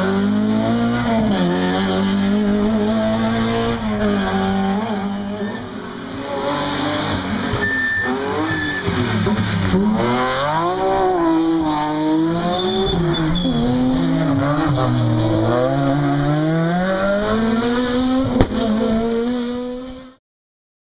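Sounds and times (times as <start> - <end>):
rally car engine revving: 0.0 - 20.2.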